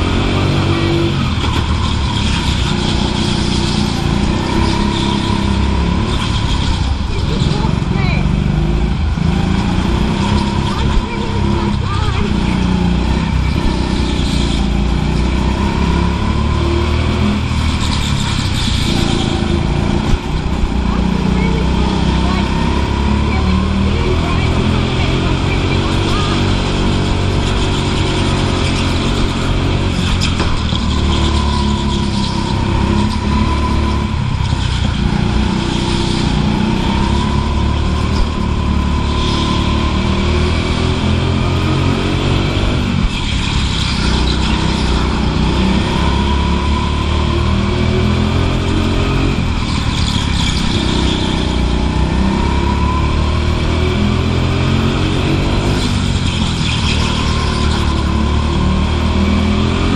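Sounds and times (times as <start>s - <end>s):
go-kart motor drone: 0.0s - 59.9s.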